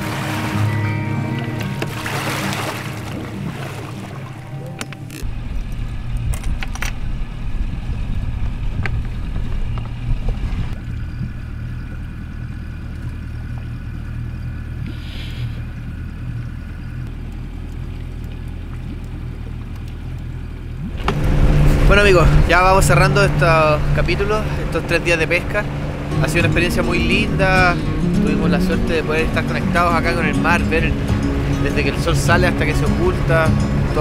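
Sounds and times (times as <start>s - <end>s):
boat motor running: 0.0s - 34.0s
water noise: 0.0s - 34.0s.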